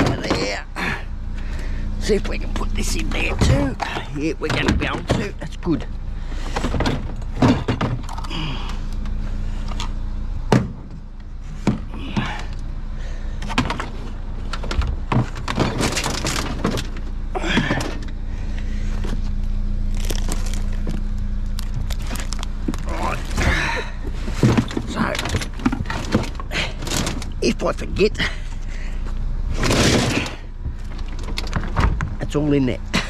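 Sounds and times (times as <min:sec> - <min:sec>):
knocks and clunks: 0:00.0 - 0:01.1, 0:02.1 - 0:12.6, 0:13.4 - 0:19.3, 0:22.6 - 0:33.0
steady low hum: 0:00.0 - 0:33.0.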